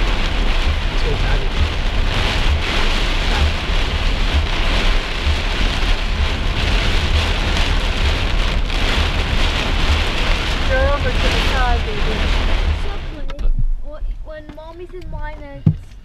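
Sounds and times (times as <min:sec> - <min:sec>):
heavy rain on a car: 0:00.0 - 0:16.0
low rumbling: 0:00.0 - 0:16.0.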